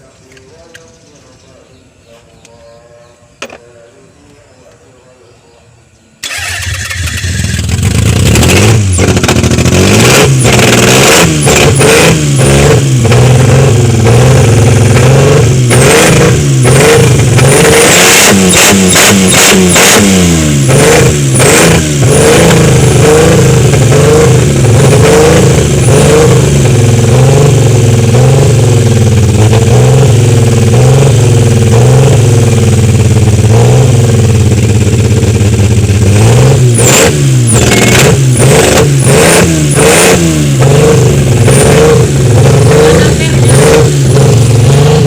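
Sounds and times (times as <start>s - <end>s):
car engine revving: 6.2s - 45.0s.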